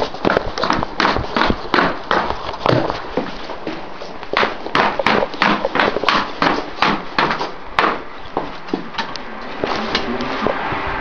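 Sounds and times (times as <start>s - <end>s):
footsteps on steel decking: 0.0s - 10.3s.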